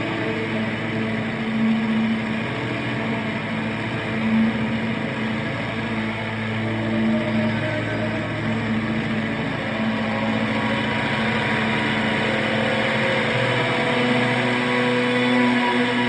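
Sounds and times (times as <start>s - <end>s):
distorted sustained drone: 0.0s - 16.0s.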